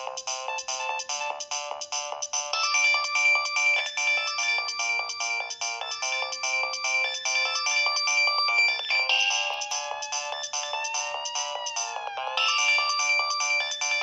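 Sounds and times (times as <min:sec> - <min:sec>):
polyphonic phone ringtone: 0:00.0 - 0:14.0.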